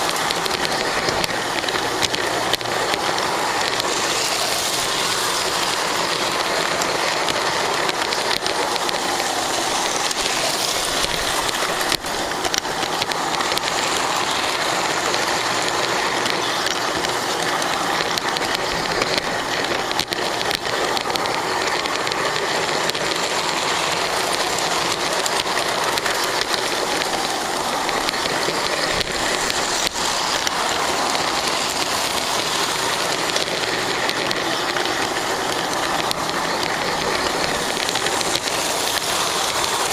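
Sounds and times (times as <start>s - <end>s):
model train wheels and motor whirring: 0.0s - 39.9s.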